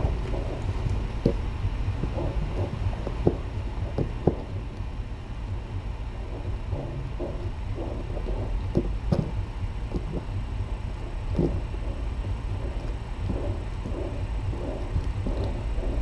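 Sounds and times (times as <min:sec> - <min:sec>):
low room noise rumble: 0:00.0 - 0:16.0.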